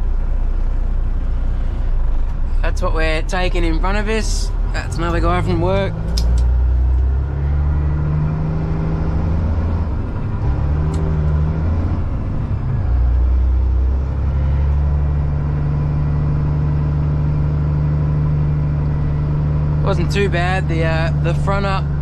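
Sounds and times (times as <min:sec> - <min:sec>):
diesel truck engine drone: 0:00.0 - 0:22.0.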